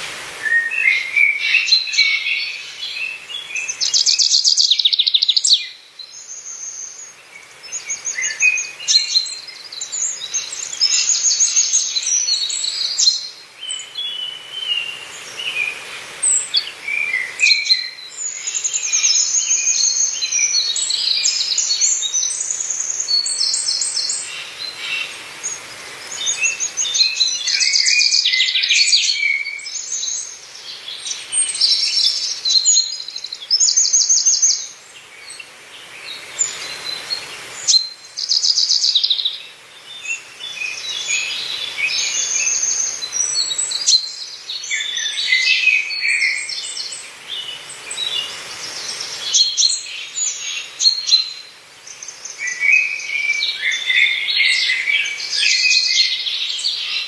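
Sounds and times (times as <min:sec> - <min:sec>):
faint background hiss: 0:00.0 - 0:57.0
songbirds chirping and trilling: 0:00.0 - 0:57.0.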